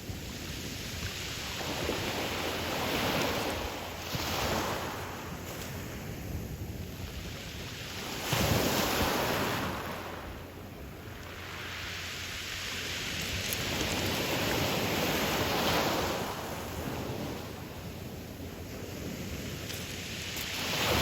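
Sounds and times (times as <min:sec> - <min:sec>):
waves breaking on pebble beach: 0:00.0 - 0:21.0.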